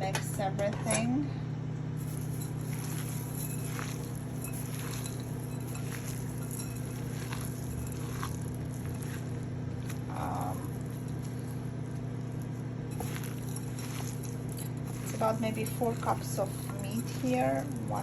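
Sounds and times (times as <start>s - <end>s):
steady low hum: 0.0s - 18.0s
hands squishing meat mixture: 2.0s - 18.0s.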